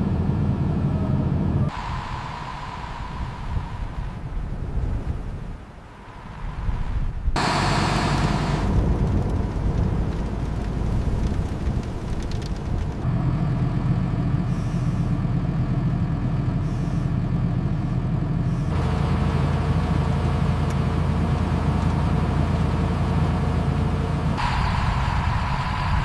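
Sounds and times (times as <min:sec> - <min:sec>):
diesel truck engine idling: 0:00.4 - 0:26.0.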